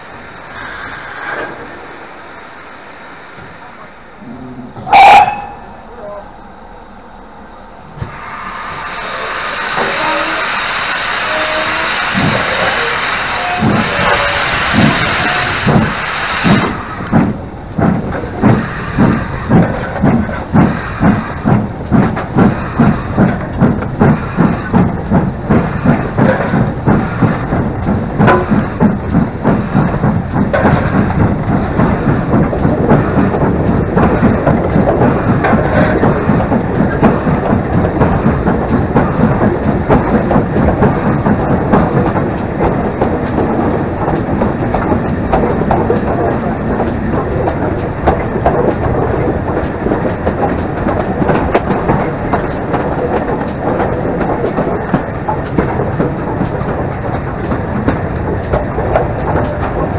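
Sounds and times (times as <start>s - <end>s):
loud steam hiss: 0.0s - 6.3s, 7.0s - 59.9s
steam locomotive exhaust beats: 0.0s - 59.9s.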